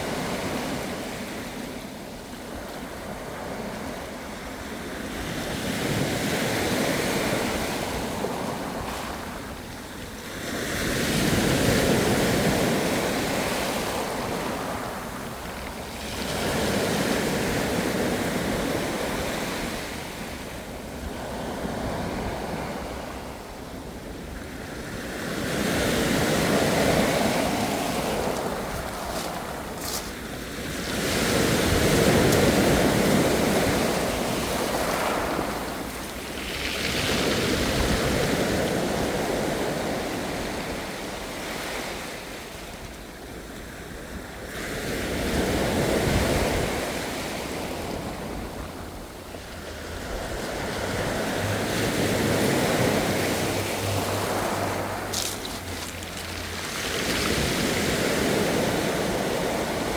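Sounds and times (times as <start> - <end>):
ocean waves washing: 0.0 - 59.9
surf hiss: 0.0 - 59.9.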